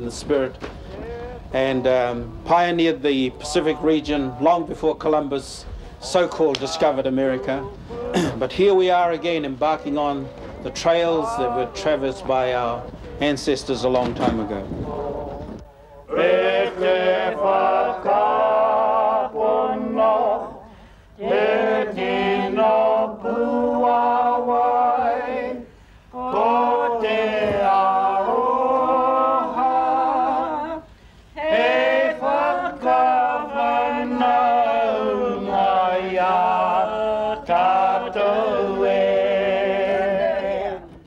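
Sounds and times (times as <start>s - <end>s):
group singing unaccompanied: 0.0s - 41.0s.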